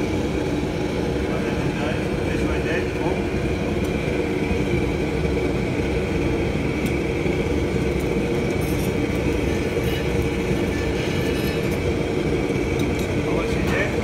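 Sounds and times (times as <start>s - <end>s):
kitchen equipment roaring: 0.0s - 14.0s.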